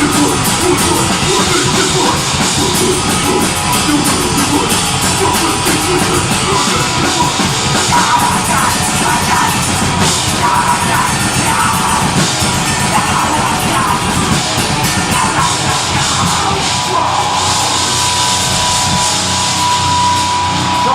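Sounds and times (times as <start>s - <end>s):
distorted guitars: 0.0s - 20.9s
fast drums: 0.0s - 20.9s
harsh yelled vocals: 0.0s - 20.9s.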